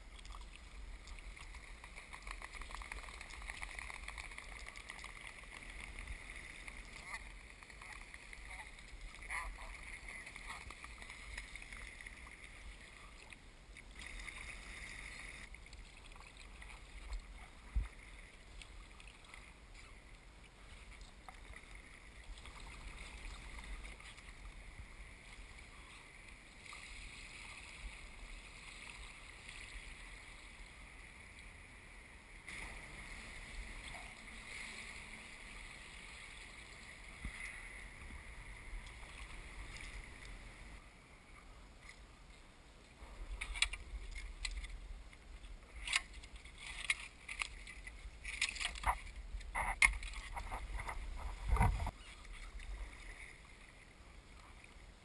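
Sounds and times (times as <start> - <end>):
paddle dipping and dripping in water: 0.0 - 31.6, 32.4 - 55.0.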